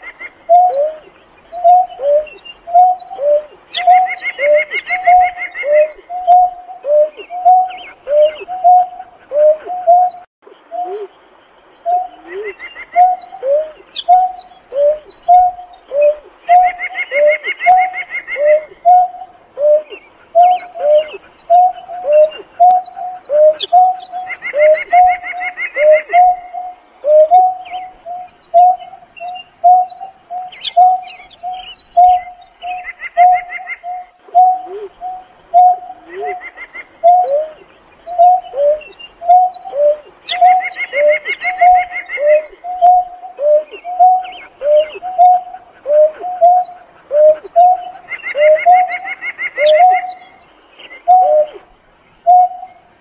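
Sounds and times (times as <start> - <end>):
bird low hooting call: 0.0 - 53.0.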